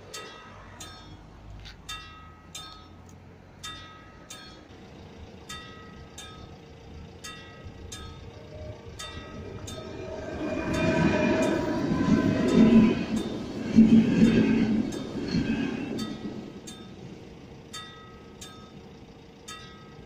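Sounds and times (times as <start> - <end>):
crossing warning bell ringing: 0.0 - 20.0
electric train passing: 0.0 - 20.0.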